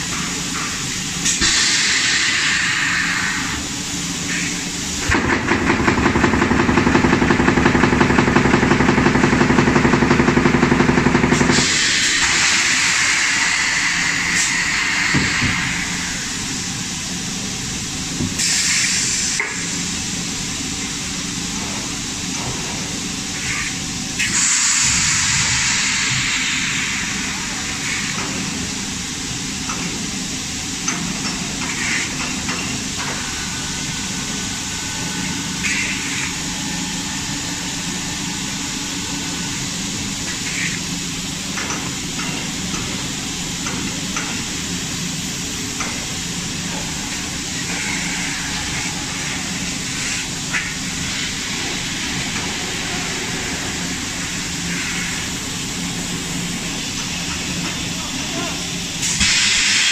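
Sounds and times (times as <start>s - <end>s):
pneumatic machine hiss and hum: 0.0s - 59.9s.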